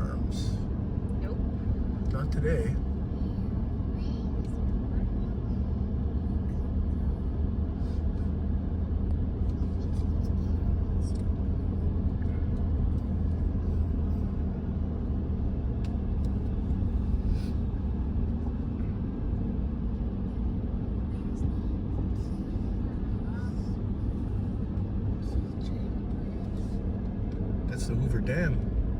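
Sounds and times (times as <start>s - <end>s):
truck engine and tyres rumbling: 0.0s - 28.9s.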